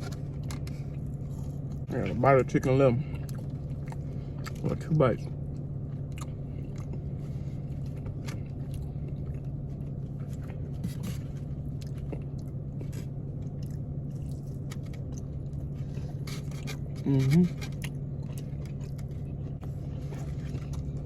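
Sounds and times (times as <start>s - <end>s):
person chewing crunchy food: 0.0s - 1.9s, 3.0s - 4.8s, 5.4s - 21.0s
low hum: 0.0s - 21.0s.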